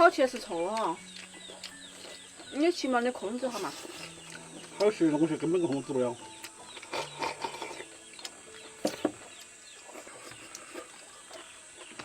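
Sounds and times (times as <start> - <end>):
birds chirping: 0.0 - 12.0
chickens clucking: 0.0 - 12.0.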